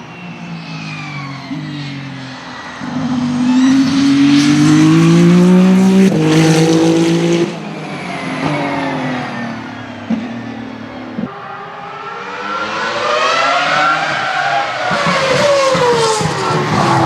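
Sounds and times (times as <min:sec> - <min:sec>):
race car accelerating past: 0:00.0 - 0:17.0.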